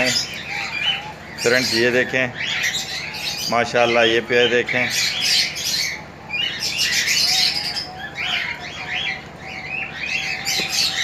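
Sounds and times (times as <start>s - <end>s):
cage birds chirping: 0.0s - 11.0s.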